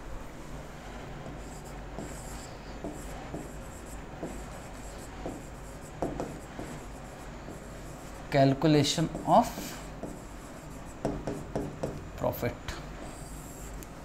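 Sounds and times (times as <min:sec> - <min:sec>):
marker scratching on whiteboard: 0:00.7 - 0:12.0, 0:13.0 - 0:13.9.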